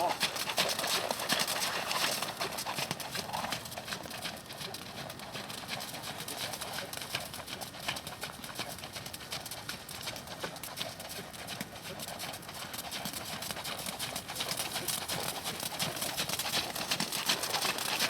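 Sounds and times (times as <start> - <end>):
horse hoofbeats clip-clopping: 0.0 - 18.0.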